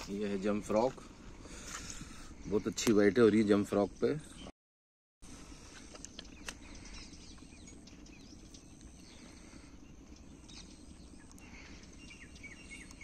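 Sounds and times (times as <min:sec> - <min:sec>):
small birds chirping: 0:00.0 - 0:04.5, 0:05.2 - 0:13.0.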